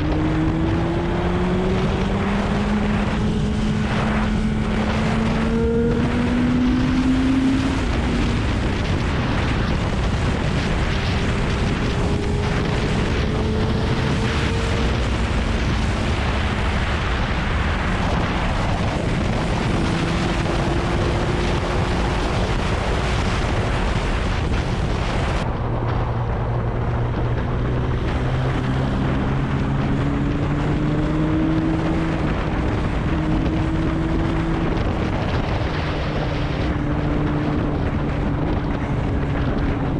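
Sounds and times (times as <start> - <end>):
motorcycle engine running: 0.0 - 17.2, 17.9 - 39.9
wind rushing on microphone: 0.0 - 39.9.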